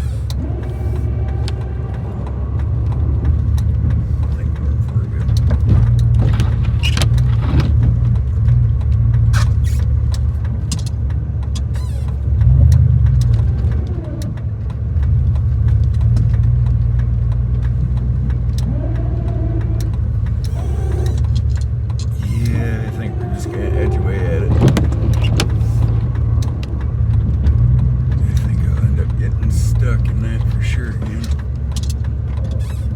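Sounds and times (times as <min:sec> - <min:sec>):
truck engine rumbling: 0:00.0 - 0:32.9.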